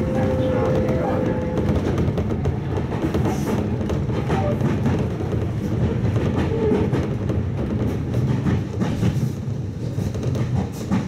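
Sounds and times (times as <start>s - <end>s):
train wheels rumbling on track: 0.0s - 11.0s
wheels clicking over rail joints: 0.0s - 11.0s.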